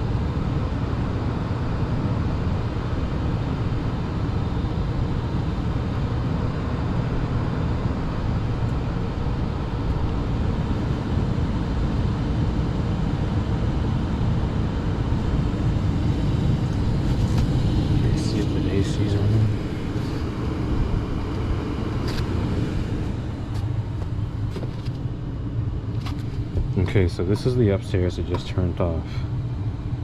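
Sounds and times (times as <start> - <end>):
gas furnace rumble and air rush: 0.0 - 30.0.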